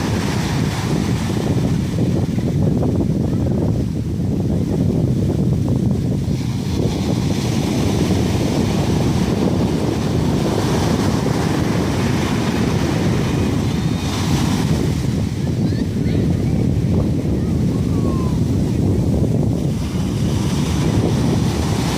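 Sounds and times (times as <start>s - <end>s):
surf washing on beach: 0.0s - 21.9s
wind rumbling on microphone: 0.0s - 21.9s.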